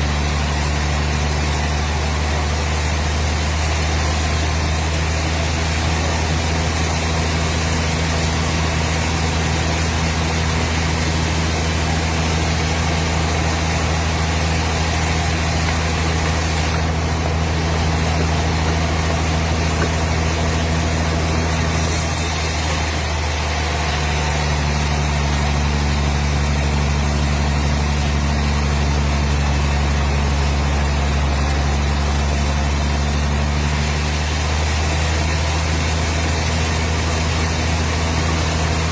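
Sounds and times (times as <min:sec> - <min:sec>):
engine running with low drone: 0:00.0 - 0:38.9.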